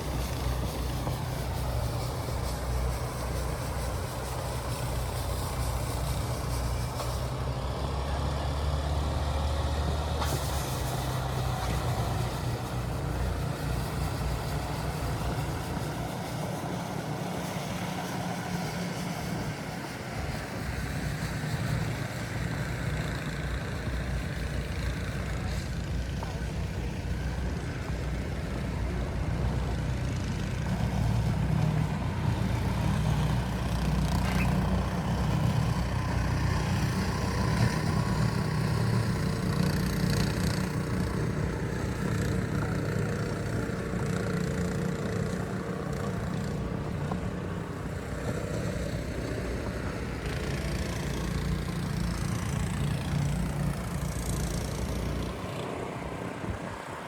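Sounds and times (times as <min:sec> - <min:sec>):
city street noise: 0:00.0 - 0:57.0
engine low rumble: 0:00.0 - 0:57.0.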